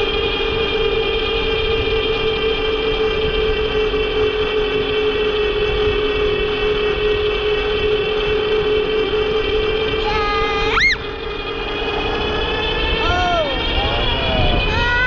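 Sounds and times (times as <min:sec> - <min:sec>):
electric bike motor whining: 0:00.0 - 0:15.0
wind rumbling on microphone: 0:00.0 - 0:15.0.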